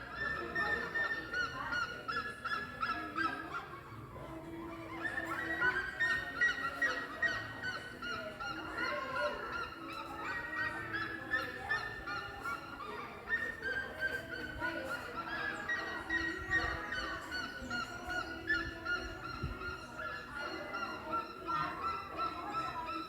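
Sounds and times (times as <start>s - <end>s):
birds chirping in chorus: 0.0s - 23.0s.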